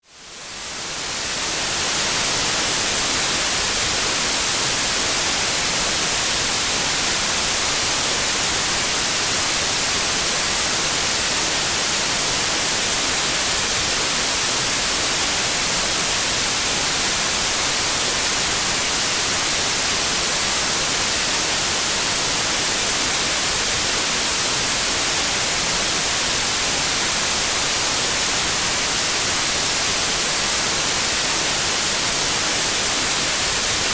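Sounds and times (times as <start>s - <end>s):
high white noise hiss: 0.0s - 33.9s.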